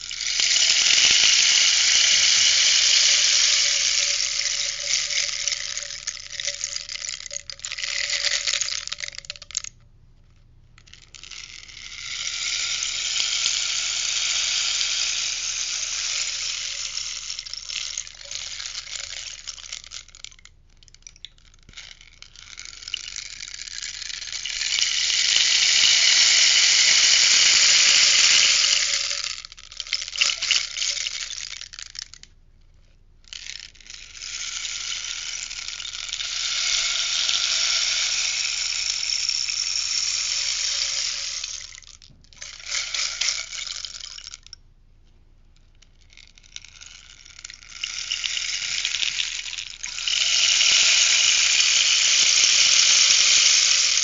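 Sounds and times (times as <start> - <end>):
rainstick rushing cascade: 0.0 - 9.6, 10.9 - 20.4, 21.8 - 32.2, 33.4 - 44.5, 46.1 - 54.0.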